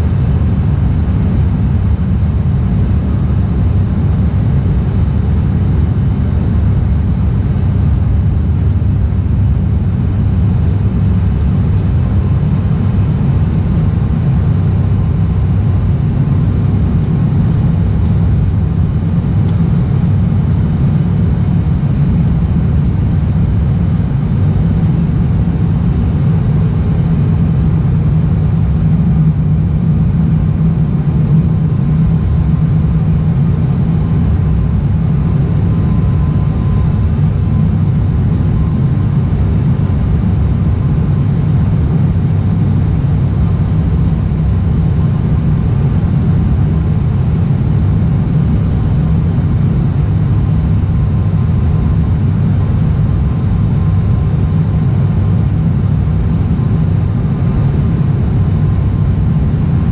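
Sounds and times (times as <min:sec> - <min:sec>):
turboprop engine drone in cabin: 0:00.0 - 0:59.9.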